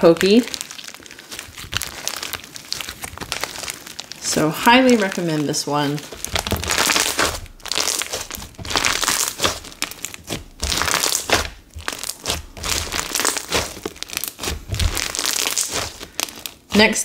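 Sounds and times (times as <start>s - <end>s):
beaded slime crackling and popping: 0.0s - 17.0s.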